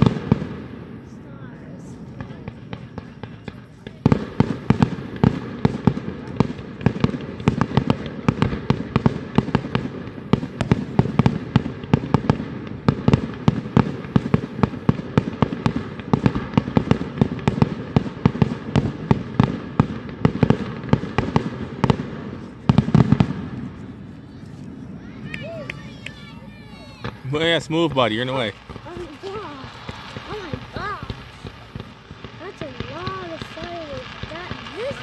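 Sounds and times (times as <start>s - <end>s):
fireworks banging: 0.0s - 35.0s.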